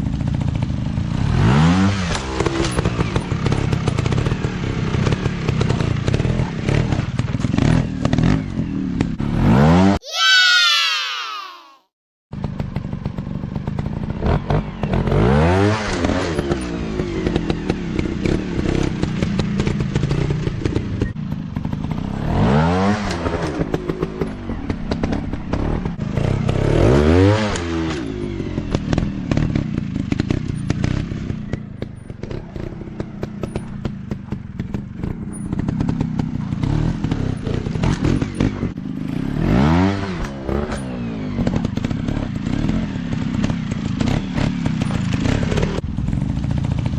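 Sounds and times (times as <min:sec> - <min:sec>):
dirt bike engine revving: 0:01.0 - 0:10.6, 0:12.4 - 0:46.8.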